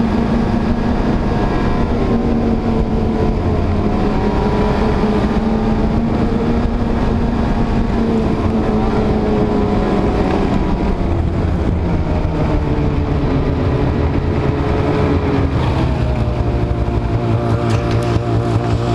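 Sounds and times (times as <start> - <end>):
snowmobile engine running: 0.0 - 18.9
steady rush of noise: 0.0 - 18.9.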